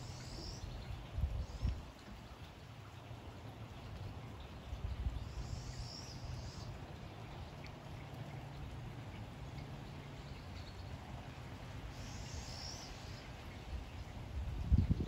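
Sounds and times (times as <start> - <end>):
songbird calling: 0.0 - 2.1, 4.4 - 15.0
light rain falling: 0.0 - 15.0.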